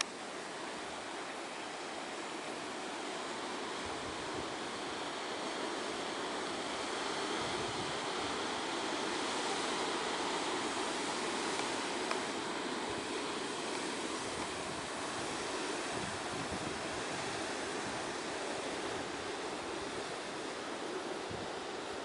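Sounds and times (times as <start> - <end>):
surf breaking over rocks: 0.0 - 22.0.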